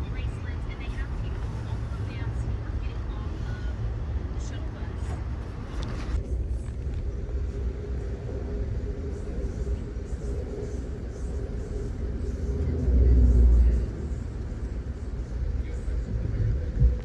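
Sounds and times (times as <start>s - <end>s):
train rumble heard from aboard: 0.0s - 17.0s.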